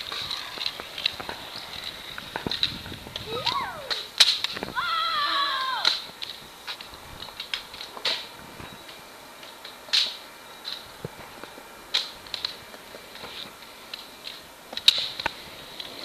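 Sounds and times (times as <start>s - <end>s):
skateboard wheels clacking on concrete: 0.0s - 16.0s.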